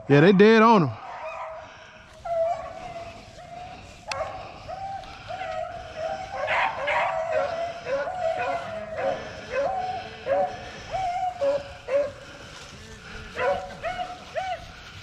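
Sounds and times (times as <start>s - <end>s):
dogs baying: 1.0s - 15.0s.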